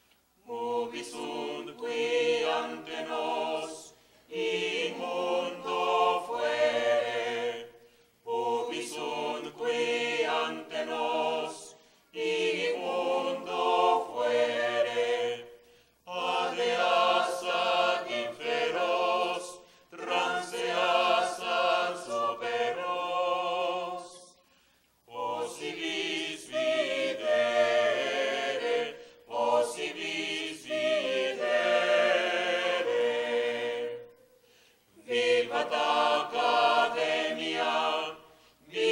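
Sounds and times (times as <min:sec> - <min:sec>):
choir singing a cappella: 0:00.3 - 0:38.9.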